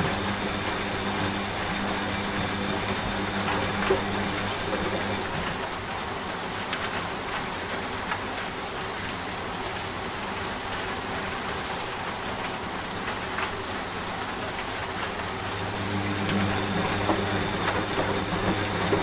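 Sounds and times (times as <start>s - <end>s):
rain on a hard surface: 0.0s - 19.0s.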